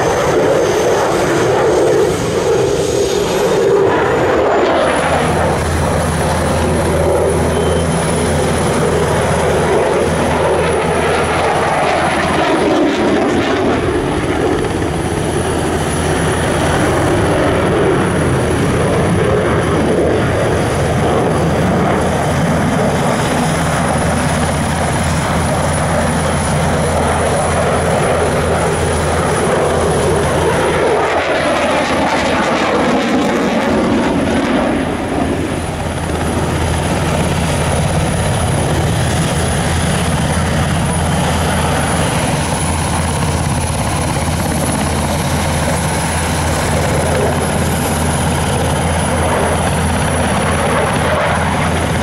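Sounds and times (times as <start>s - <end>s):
helicopter engines starting up: 0.0s - 52.0s
jet flying overhead: 0.0s - 52.0s.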